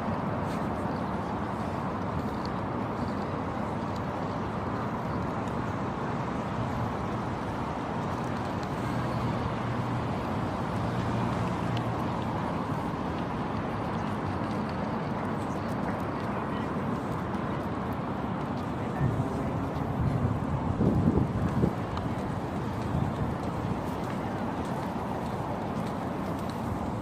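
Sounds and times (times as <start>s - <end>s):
continuous rumble and hiss: 0.0s - 27.0s.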